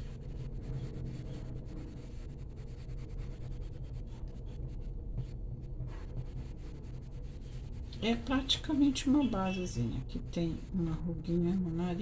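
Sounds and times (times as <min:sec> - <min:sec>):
pencil scratching on paper: 0:00.0 - 0:12.0
steady low hum: 0:00.0 - 0:12.0.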